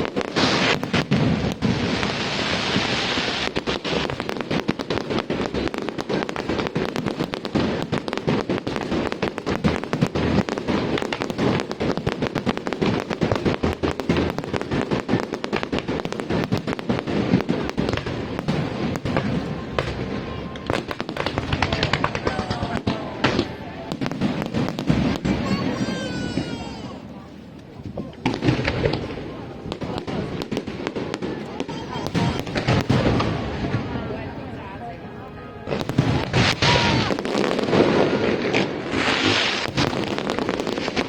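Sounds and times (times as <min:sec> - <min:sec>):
fireworks bursting: 0:00.0 - 0:41.0
fireworks hissing crackle: 0:00.0 - 0:41.0.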